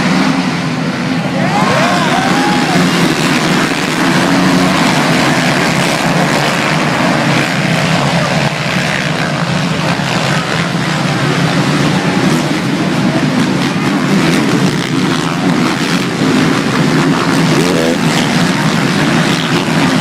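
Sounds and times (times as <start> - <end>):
single bike engine rising in pitch: 0.0 - 18.1
motocross bikes racing: 0.0 - 20.0.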